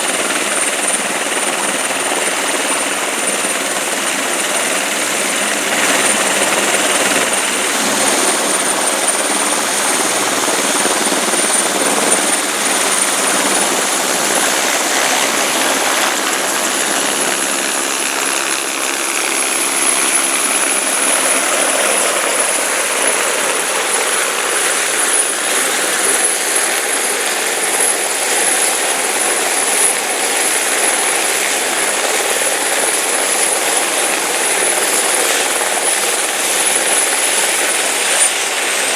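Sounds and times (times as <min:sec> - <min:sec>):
helicopter rotor and turbine whine: 0:00.0 - 0:38.9.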